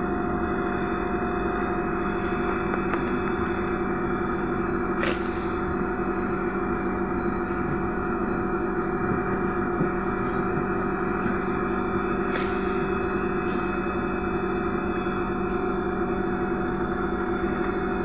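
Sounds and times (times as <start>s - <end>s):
electrical equipment humming: 0.0s - 18.0s
faint high whine: 0.0s - 18.0s.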